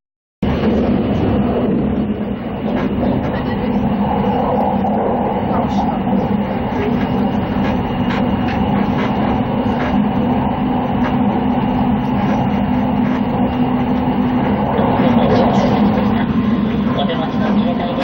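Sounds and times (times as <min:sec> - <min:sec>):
train rumble and hum: 0:00.4 - 0:18.0.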